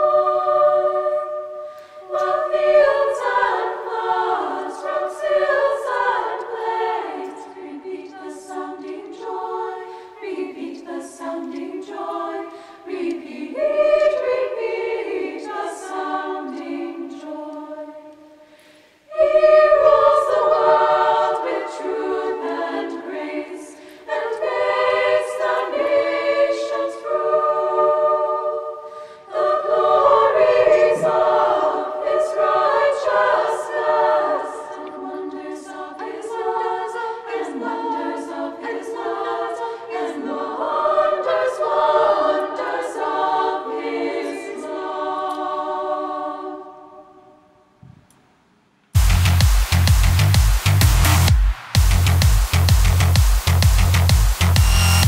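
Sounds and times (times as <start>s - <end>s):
choir singing: 0.0s - 18.5s, 19.1s - 47.8s, 49.0s - 55.0s.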